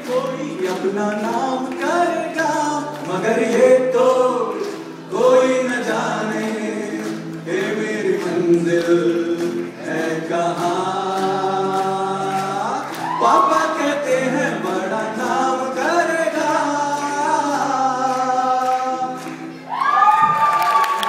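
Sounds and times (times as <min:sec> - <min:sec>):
men singing through microphones: 0:00.0 - 0:19.4
guitar accompaniment: 0:00.0 - 0:21.0.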